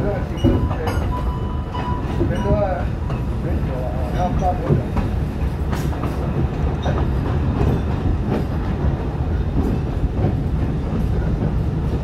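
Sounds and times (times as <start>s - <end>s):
train rumbling: 0.0s - 12.0s
wheels clacking over rail joints: 0.0s - 12.0s.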